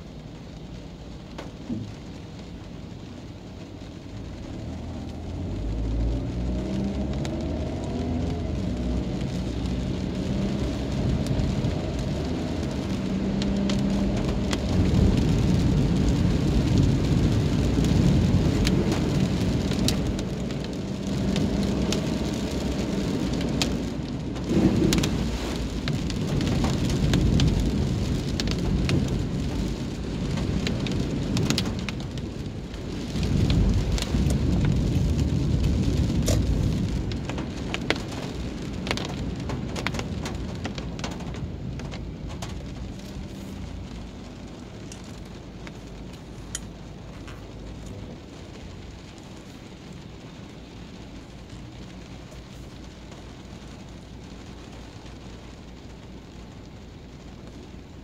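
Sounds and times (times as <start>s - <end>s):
low engine hum: 0.0s - 58.0s
rain on car windshield: 0.0s - 58.0s
tyres hissing on wet asphalt: 0.0s - 58.0s.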